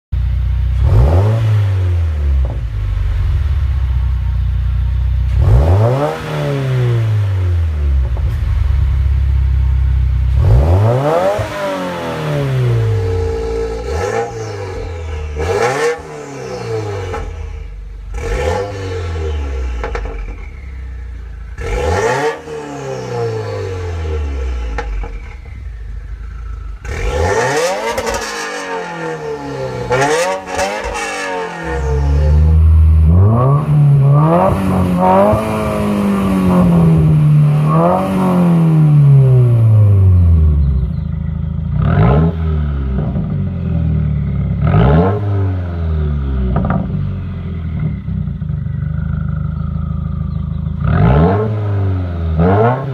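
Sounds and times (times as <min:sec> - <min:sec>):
car engine revving: 0:00.2 - 0:52.9.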